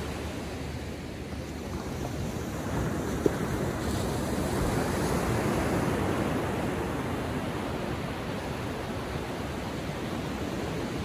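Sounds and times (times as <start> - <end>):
ocean waves breaking on beach: 0.0 - 11.0.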